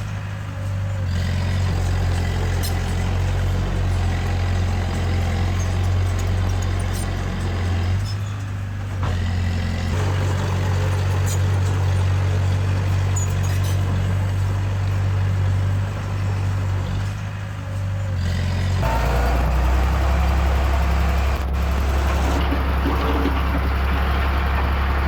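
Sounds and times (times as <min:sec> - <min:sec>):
heavy diesel engine under load: 0:00.0 - 0:25.0.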